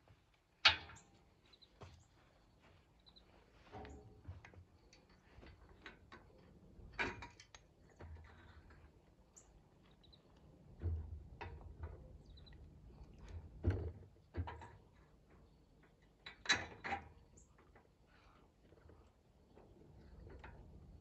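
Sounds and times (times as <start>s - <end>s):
knocks and clunks on metal frame: 0.5s - 2.8s, 3.4s - 21.0s.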